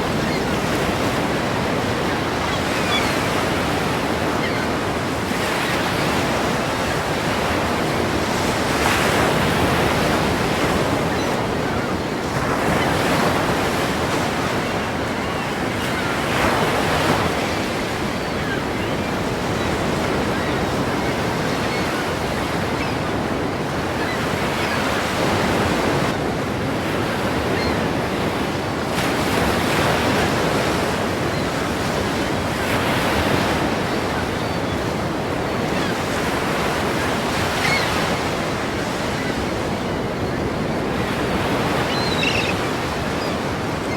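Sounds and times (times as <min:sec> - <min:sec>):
ocean waves crashing: 0:00.0 - 0:43.9.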